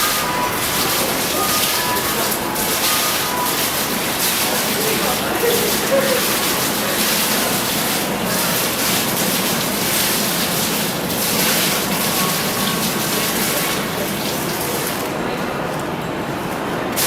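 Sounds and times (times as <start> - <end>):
fountain water gushing: 0.0 - 17.0.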